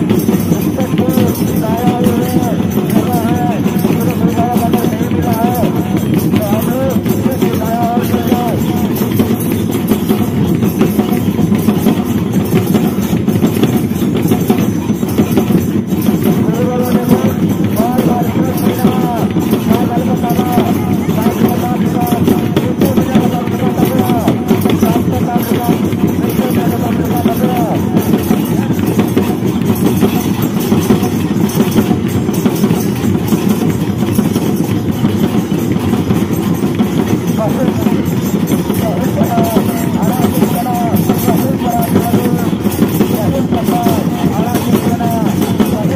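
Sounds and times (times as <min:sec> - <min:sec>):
rapid drumming: 0:00.0 - 0:45.9.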